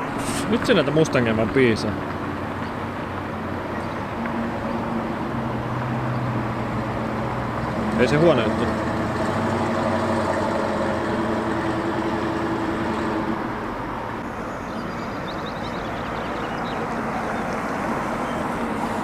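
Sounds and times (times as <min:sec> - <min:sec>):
car engine cruising past: 0:00.0 - 0:19.0
street traffic noise: 0:00.0 - 0:19.0.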